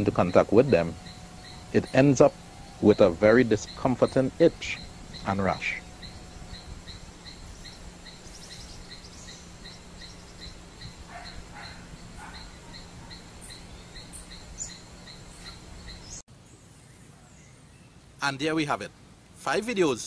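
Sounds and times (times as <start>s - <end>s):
bird calls: 0.0s - 18.7s
low steady hum: 0.0s - 20.0s.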